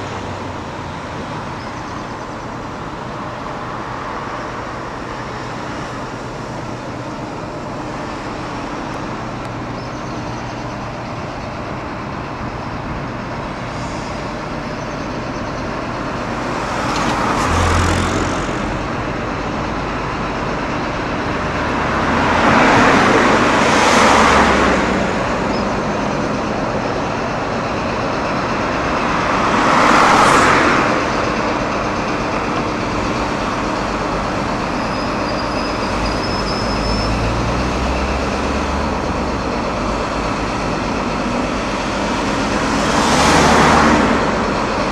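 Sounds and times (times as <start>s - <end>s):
road traffic noise: 0.0s - 44.9s
vehicles passing: 0.0s - 44.9s.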